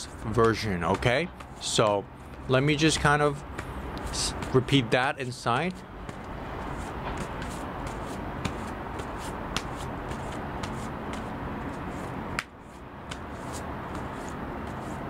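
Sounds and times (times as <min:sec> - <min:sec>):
steady background noise: 0:00.0 - 0:15.0
cards being shuffled: 0:00.1 - 0:15.0.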